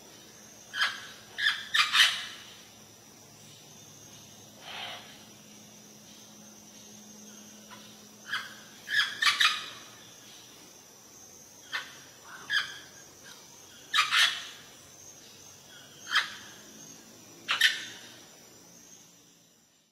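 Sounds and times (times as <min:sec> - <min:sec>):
faint steady hiss: 0:00.0 - 0:19.9.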